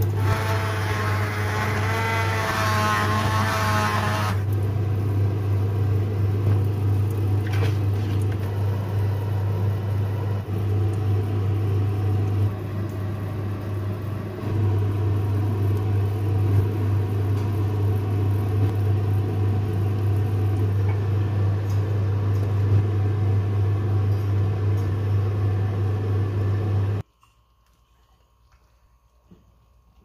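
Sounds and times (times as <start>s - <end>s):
kitchen appliance humming: 0.0s - 27.1s.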